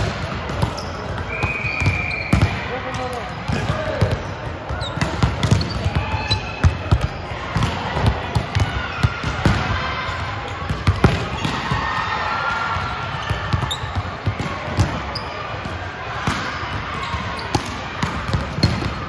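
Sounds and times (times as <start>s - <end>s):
basketball bouncing on court: 0.0s - 11.8s, 12.8s - 15.2s, 16.2s - 19.0s.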